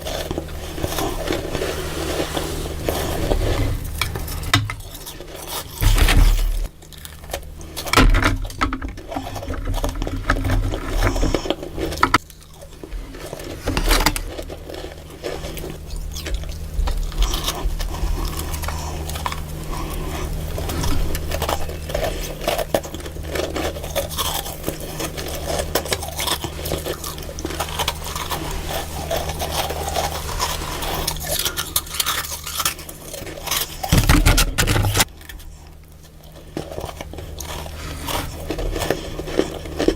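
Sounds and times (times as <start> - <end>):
scraping freezer frost: 0.0 - 39.9.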